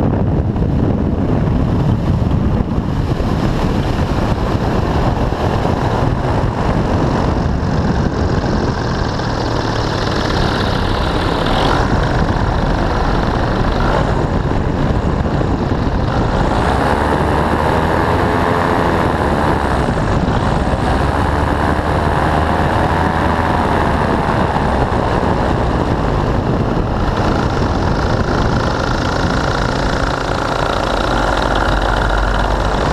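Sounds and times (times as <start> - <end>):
airflow buffeting microphone: 0.0 - 32.9.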